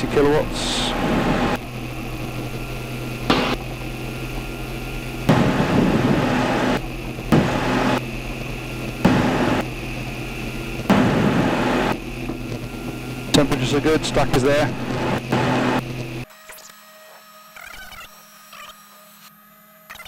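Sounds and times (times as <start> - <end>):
rushing noise: 0.0 - 16.2
electric aircraft motor hum: 0.0 - 20.0.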